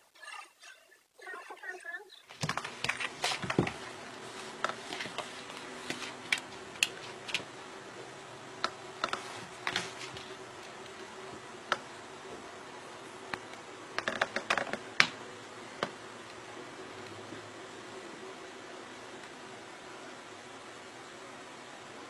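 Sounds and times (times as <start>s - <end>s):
steady low hum: 1.0s - 22.0s.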